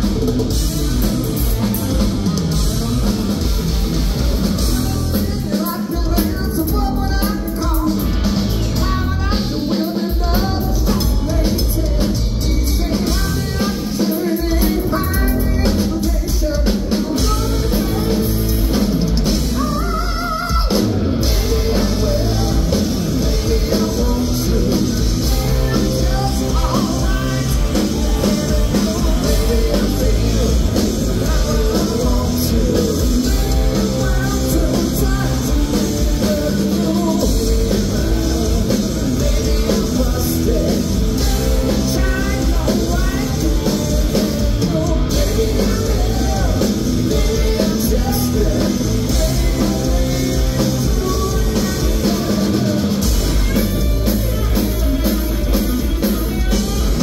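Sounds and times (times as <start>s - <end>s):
drum kit playing: 0.0s - 57.0s
electric bass: 0.0s - 57.0s
electric guitar: 0.0s - 57.0s.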